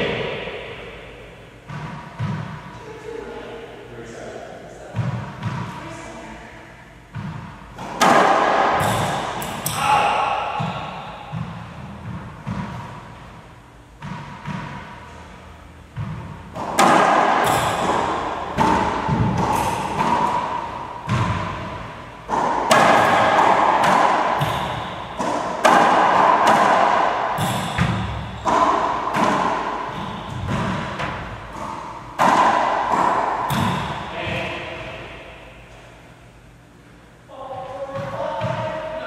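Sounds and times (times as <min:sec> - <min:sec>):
racquetball hits echoing: 0:00.0 - 0:02.8, 0:04.9 - 0:06.0, 0:07.0 - 0:36.1, 0:37.4 - 0:39.0.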